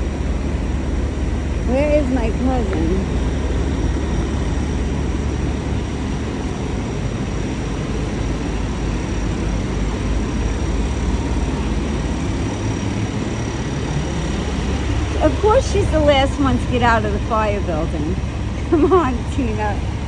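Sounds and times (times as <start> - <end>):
vehicle engines rumbling: 0.0 - 20.0.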